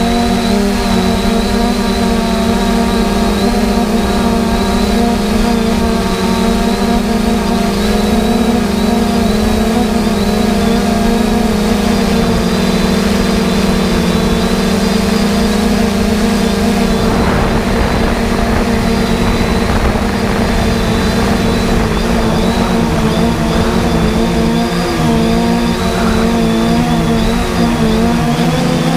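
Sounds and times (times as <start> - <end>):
heavy diesel engine running: 0.0 - 28.9
rough rushing noise: 0.0 - 28.9.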